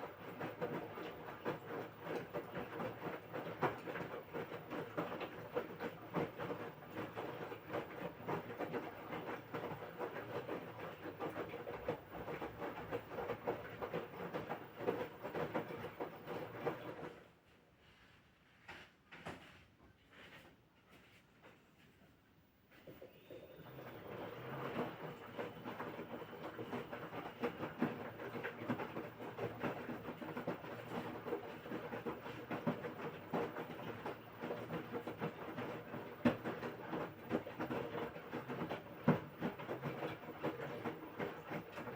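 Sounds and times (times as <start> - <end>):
washing machine drum churning and knocking: 0.0 - 17.2, 23.4 - 41.9.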